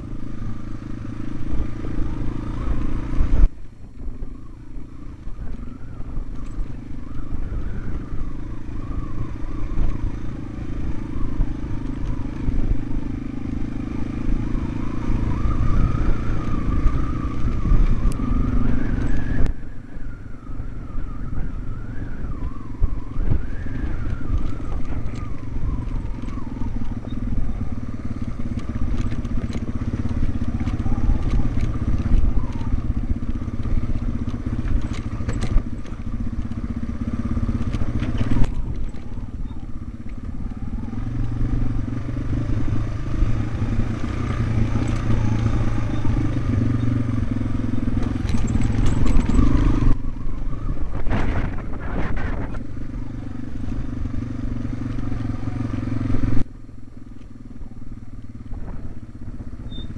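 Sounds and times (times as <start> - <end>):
motorcycle engine on dirt trail: 0.0 - 59.9.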